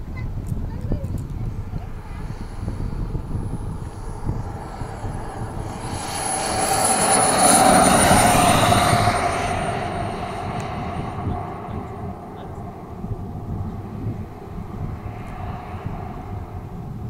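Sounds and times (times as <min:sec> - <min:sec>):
model jet turbine whining: 0:01.2 - 0:17.0.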